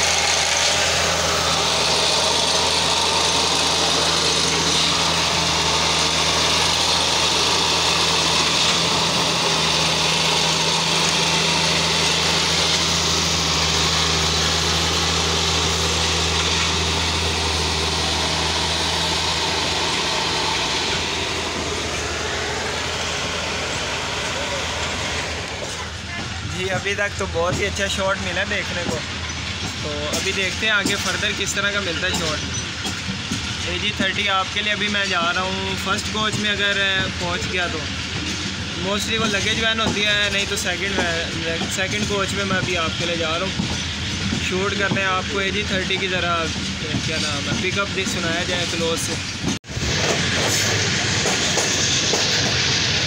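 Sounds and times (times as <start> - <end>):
dense mechanical noise: 0.0 - 53.0
diesel engine humming: 0.0 - 53.0.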